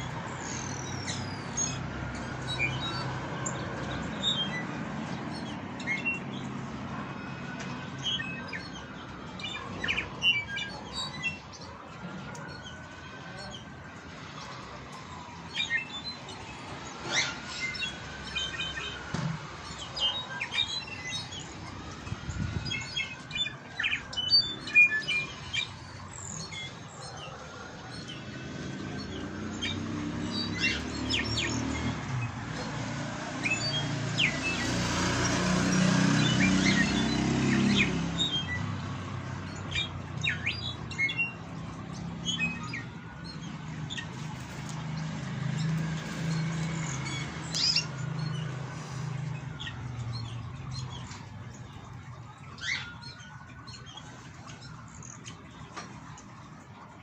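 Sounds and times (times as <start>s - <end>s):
birds chirping and whistling: 0.0s - 57.0s.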